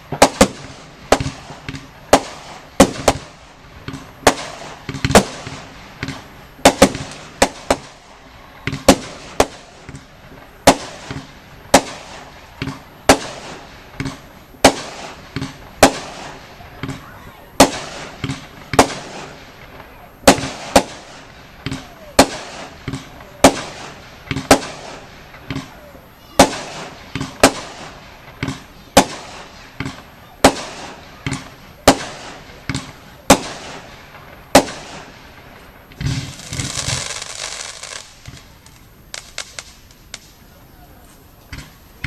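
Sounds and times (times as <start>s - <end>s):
fireworks deep thump: 0.0s - 8.0s, 8.6s - 40.5s, 41.4s - 42.0s
fireworks bangs: 0.0s - 42.0s
fireworks crackling: 0.0s - 42.0s.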